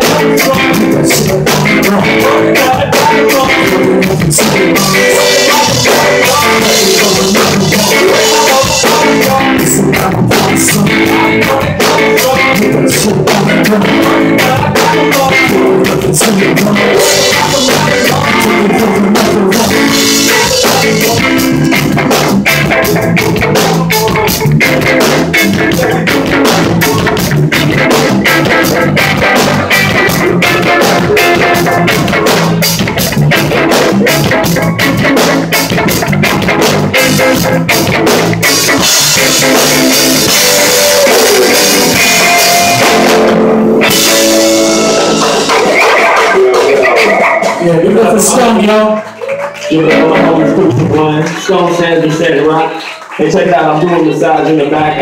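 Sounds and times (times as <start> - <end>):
drum kit steady beat: 0.0 - 55.0
electric guitar: 0.0 - 55.0.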